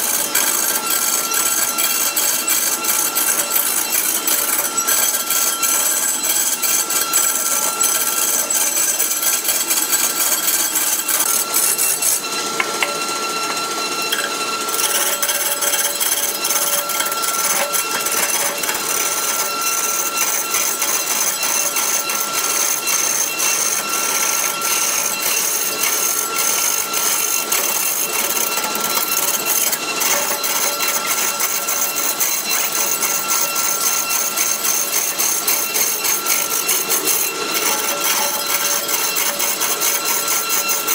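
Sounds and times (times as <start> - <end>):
thin whine: 0.0 - 40.9
tool scraping spinning wood: 0.0 - 40.9.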